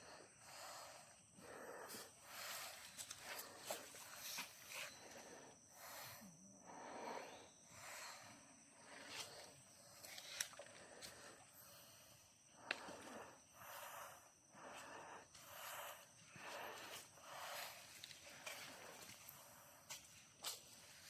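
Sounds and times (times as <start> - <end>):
person breathing hard: 0.0 - 9.9, 10.5 - 20.0.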